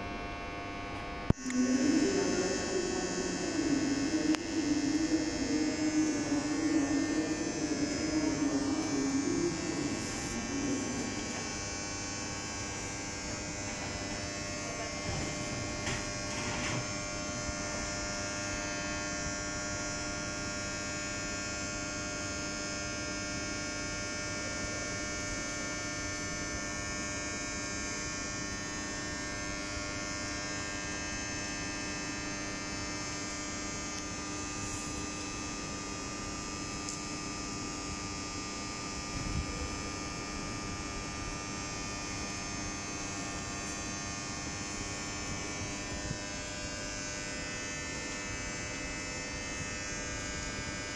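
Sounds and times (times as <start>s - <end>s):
train electrical hum: 0.0s - 50.9s.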